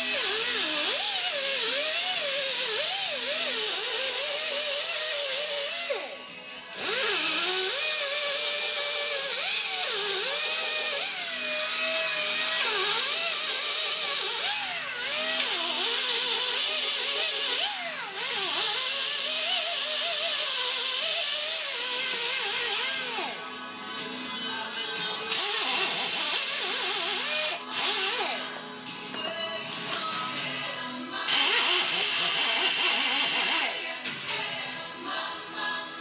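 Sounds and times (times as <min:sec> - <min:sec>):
die grinder grinding steel: 0:00.0 - 0:06.2, 0:06.8 - 0:23.5, 0:25.3 - 0:28.7, 0:31.3 - 0:34.3.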